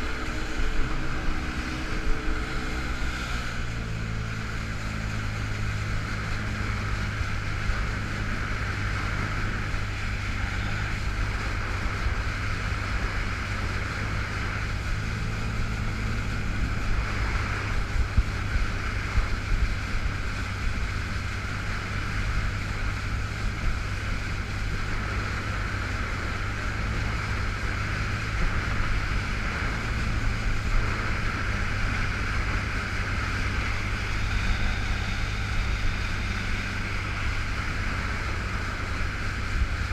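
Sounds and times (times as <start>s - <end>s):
jet ski engine running: 0.0s - 39.9s
water rushing: 0.0s - 39.9s
wind on microphone: 0.0s - 39.9s.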